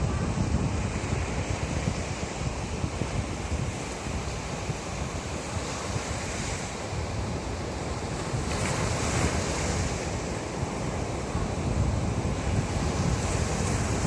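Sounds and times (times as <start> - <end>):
sea surf washing onto shore: 0.0 - 14.0
wind buffeting microphone: 0.0 - 14.0.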